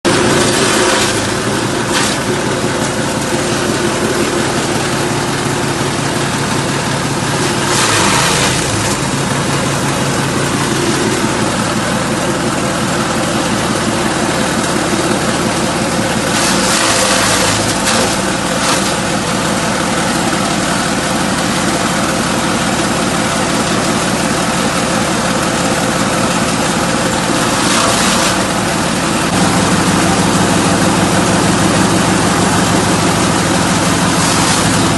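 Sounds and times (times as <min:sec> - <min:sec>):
forage chopper running: 0:00.0 - 0:34.9.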